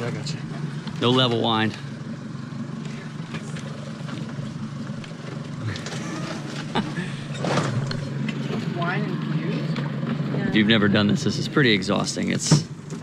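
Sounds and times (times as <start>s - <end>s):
boat engines idling: 0.0s - 13.0s.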